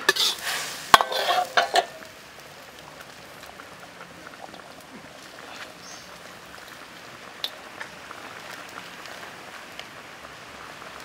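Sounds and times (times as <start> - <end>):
food sizzling in a wok: 0.0 - 3.6, 5.0 - 11.0.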